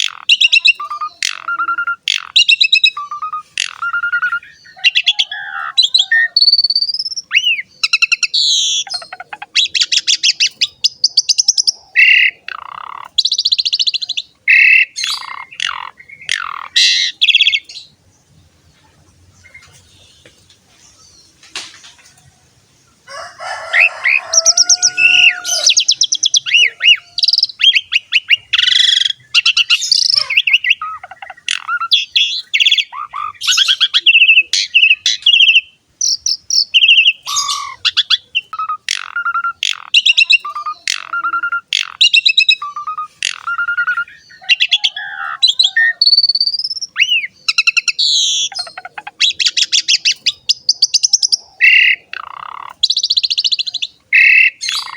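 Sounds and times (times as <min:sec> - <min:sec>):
starling singing: 0:00.0 - 0:54.9.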